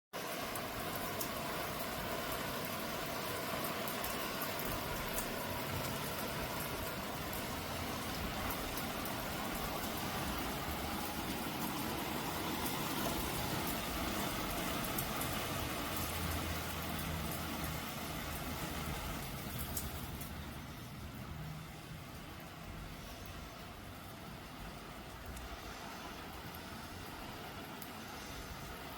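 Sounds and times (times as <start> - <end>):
steady rain falling: 0.2 - 28.9.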